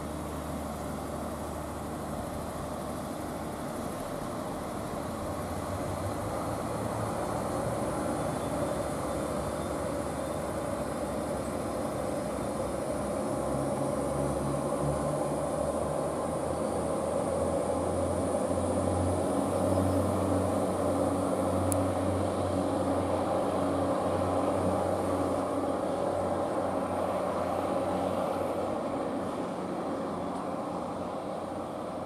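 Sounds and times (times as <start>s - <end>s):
diesel train engines droning: 0.0s - 32.0s.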